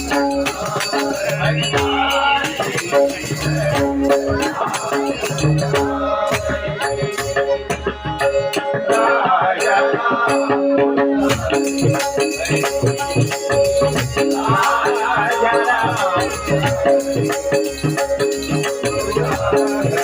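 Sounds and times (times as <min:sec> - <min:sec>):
drum beat: 0:00.0 - 0:10.3, 0:11.1 - 0:20.0
jingling percussion: 0:00.0 - 0:20.0
voices singing: 0:00.0 - 0:20.0.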